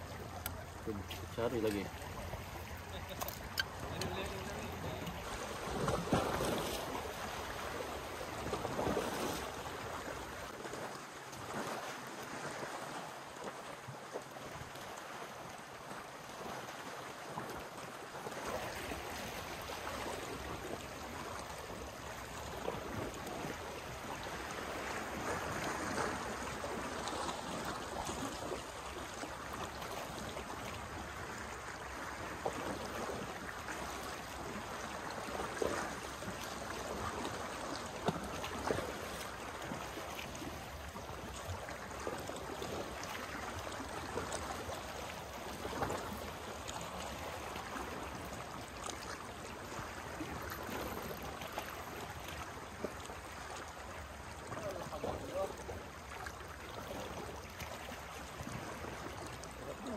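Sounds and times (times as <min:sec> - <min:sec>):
sea waves lapping against rocks: 0:00.0 - 0:59.9.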